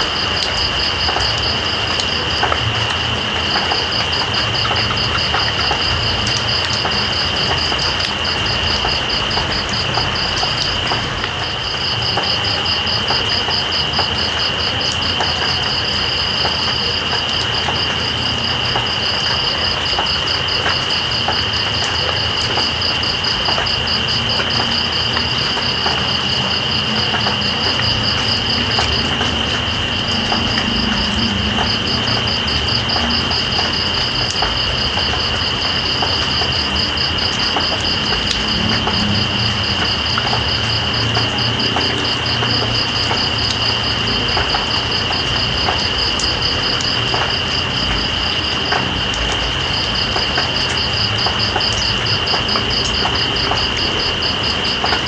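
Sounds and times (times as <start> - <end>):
drips ticking: 0.0 - 55.0
rain: 0.0 - 55.0.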